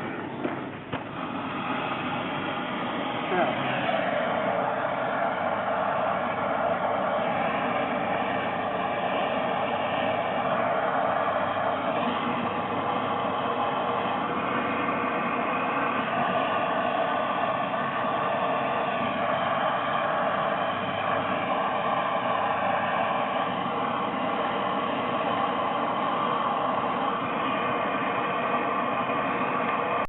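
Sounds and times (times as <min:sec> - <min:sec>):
torch flame hissing: 0:00.0 - 0:30.0.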